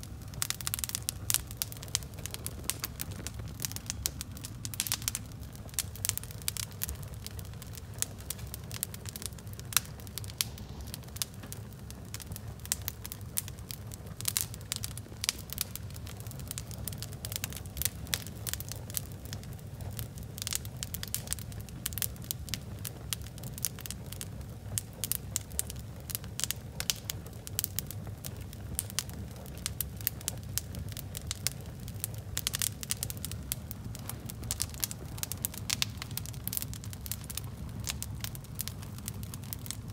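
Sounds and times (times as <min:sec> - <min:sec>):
low steady rumble: 0:00.0 - 0:39.9
wood fire crackling and popping: 0:00.0 - 0:39.9.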